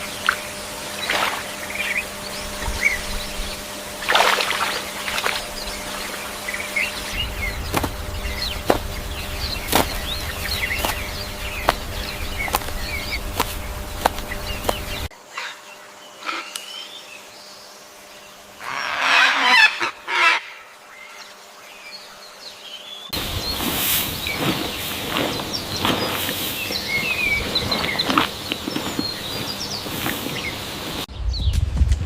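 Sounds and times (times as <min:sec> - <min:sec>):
birds chirping: 0:00.0 - 0:31.5.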